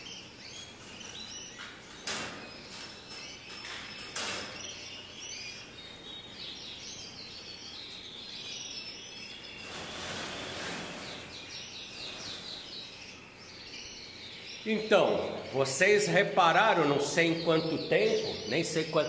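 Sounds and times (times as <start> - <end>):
canaries singing trills: 0.0 - 19.0
steady background hiss: 0.0 - 19.0.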